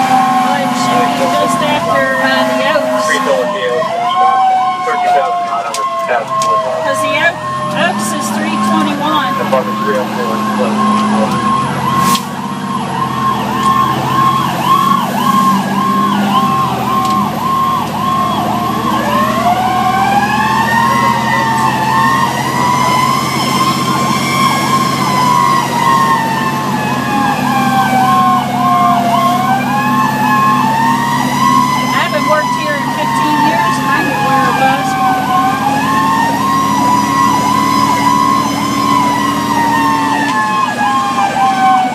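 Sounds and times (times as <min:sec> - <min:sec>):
siren wailing: 0:00.0 - 0:41.9
siren yelping fast: 0:00.0 - 0:41.9
truck engine humming: 0:00.0 - 0:41.9.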